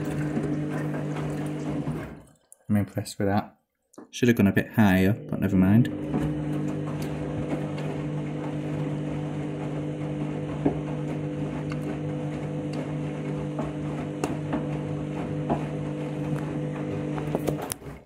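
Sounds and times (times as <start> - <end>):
washing machine motor hum: 0.0 - 3.4, 4.3 - 18.0.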